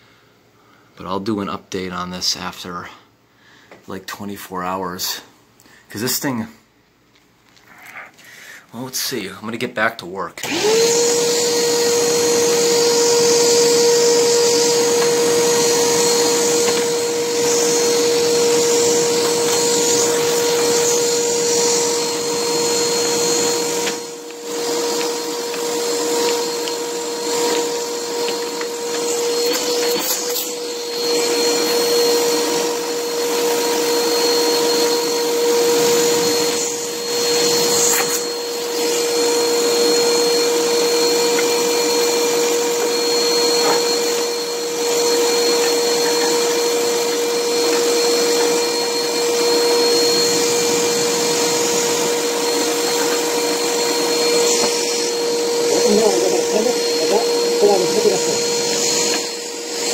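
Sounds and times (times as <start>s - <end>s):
vacuum cleaner whining: 8.8s - 59.9s.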